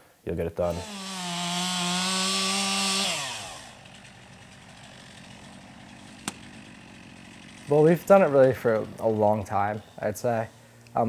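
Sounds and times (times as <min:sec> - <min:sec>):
chainsaw running: 0:00.6 - 0:11.0.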